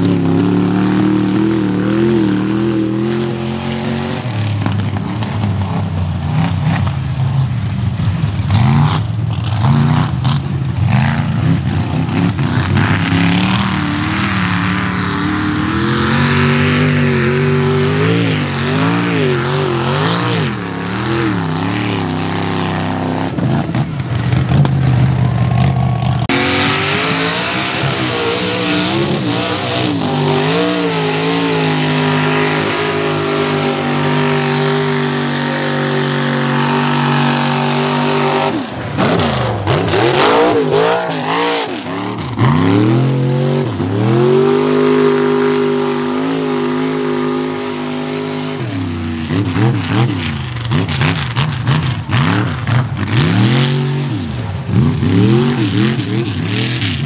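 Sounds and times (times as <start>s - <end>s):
truck engines revving: 0.0s - 57.0s
tyres churning mud: 10.8s - 57.0s.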